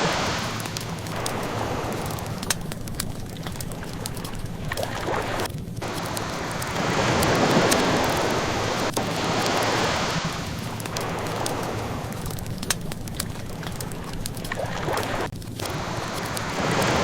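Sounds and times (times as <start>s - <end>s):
fire pops: 0.0s - 17.0s
ocean waves washing in: 0.0s - 17.0s
wood fire crackling: 0.0s - 17.0s.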